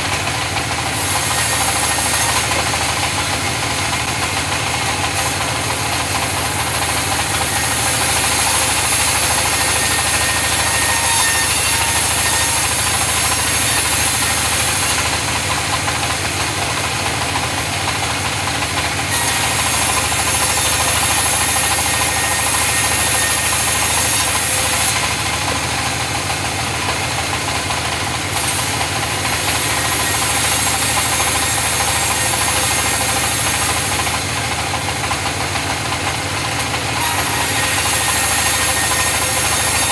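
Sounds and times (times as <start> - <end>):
saw cutting wood: 0.0 - 39.9.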